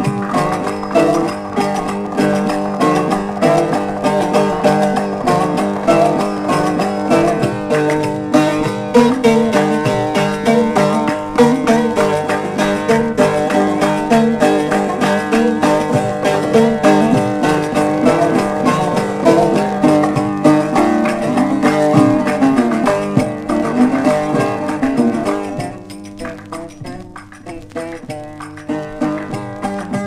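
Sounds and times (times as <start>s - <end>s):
plucked saz melody: 0.0s - 30.0s.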